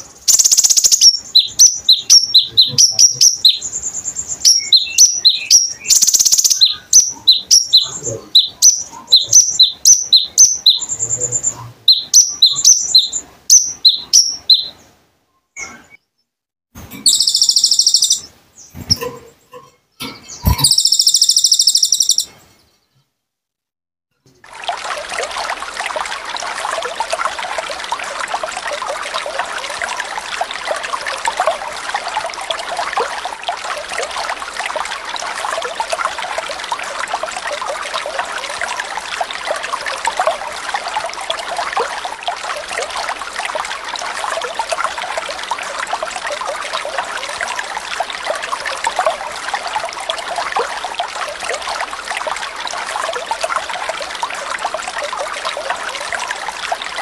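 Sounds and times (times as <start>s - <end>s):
water trickling: 0.0s - 15.0s, 16.8s - 22.3s, 24.3s - 57.0s.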